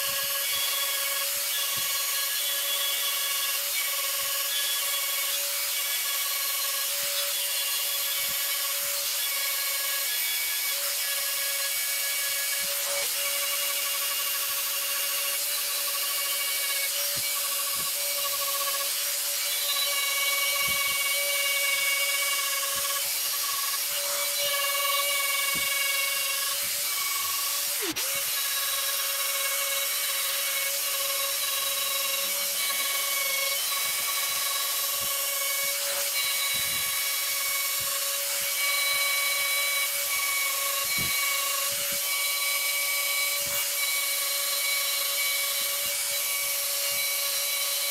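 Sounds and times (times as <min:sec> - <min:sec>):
rotary tool whining: 0:00.0 - 0:47.9.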